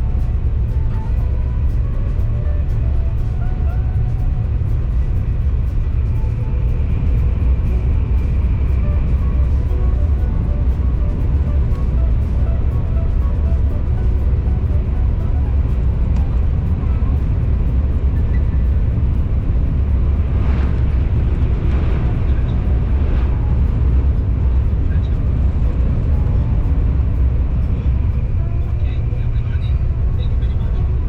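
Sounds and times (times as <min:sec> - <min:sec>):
faint music: 0:00.0 - 0:31.0
train low rumble: 0:00.0 - 0:31.0
voices: 0:00.0 - 0:31.0.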